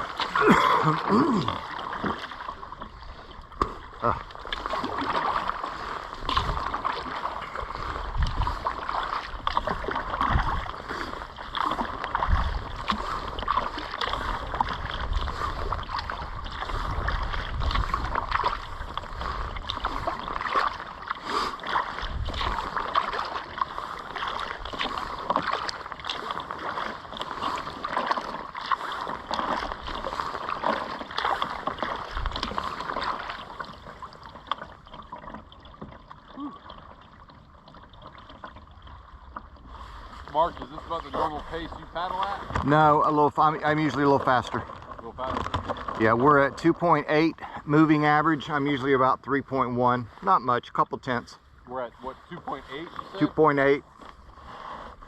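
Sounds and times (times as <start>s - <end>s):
paddle splashing through water: 0.0s - 55.0s.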